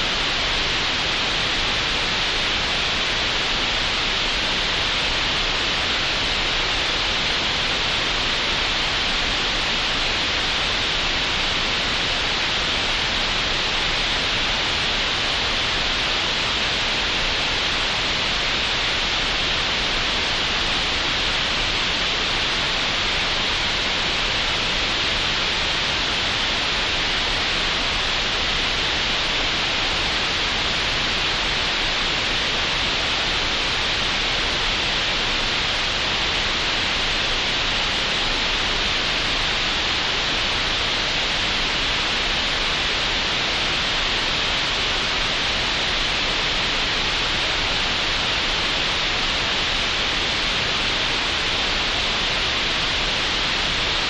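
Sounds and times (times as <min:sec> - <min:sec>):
steady synthetic noise hiss: 0:00.0 - 0:54.0.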